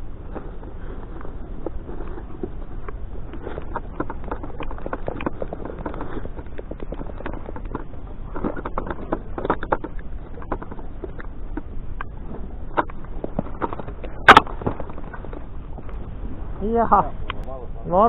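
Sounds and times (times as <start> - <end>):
light taps and scrapes: 0.2 - 16.0.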